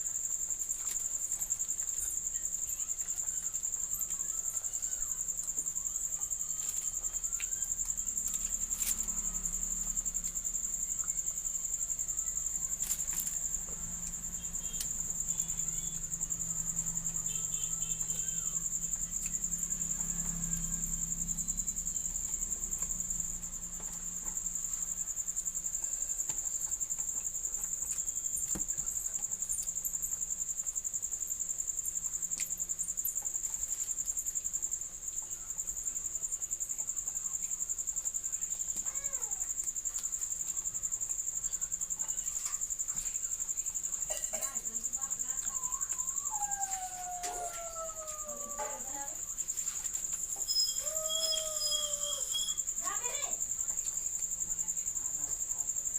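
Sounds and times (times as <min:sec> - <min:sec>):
high-pitched insect trill: 0:00.0 - 0:55.9.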